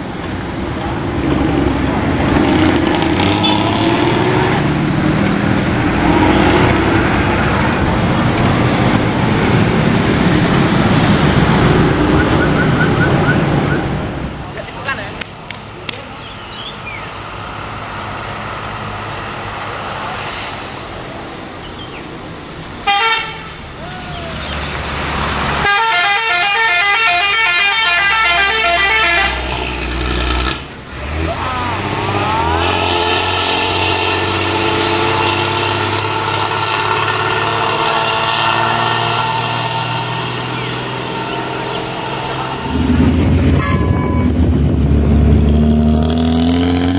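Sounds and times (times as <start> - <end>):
diesel bus engine running: 4.4 - 46.3.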